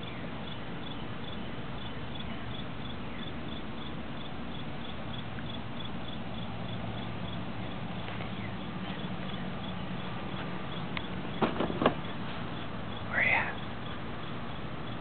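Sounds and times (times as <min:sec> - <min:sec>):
crickets chirping: 0:00.0 - 0:15.0
steady hiss and low rumble: 0:00.0 - 0:15.0.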